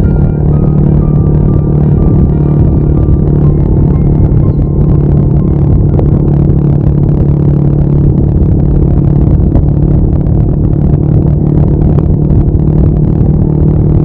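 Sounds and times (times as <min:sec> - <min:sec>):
motorcycle engine cruising: 0:00.0 - 0:14.0
wind on microphone: 0:00.0 - 0:14.0.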